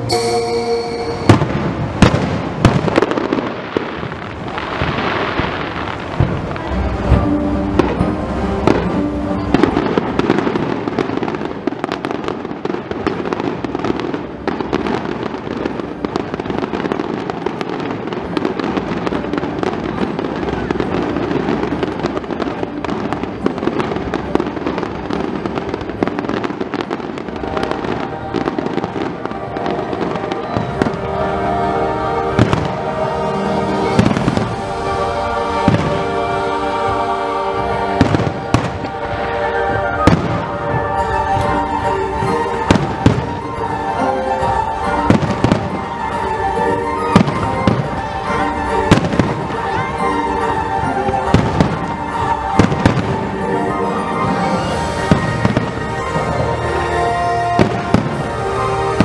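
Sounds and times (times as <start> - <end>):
fireworks bursting and crackling: 0.0 - 59.0
music playing: 0.0 - 59.0.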